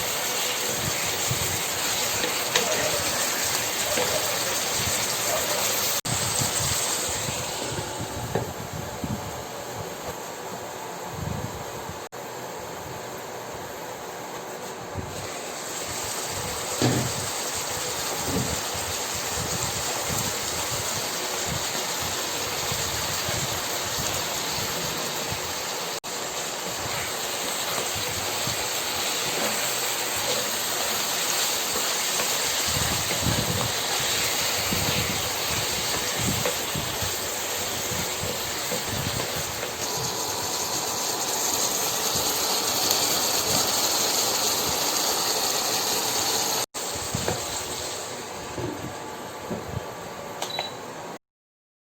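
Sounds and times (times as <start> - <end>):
chicken sizzling in a pan: 0.0 - 10.5, 15.0 - 48.6.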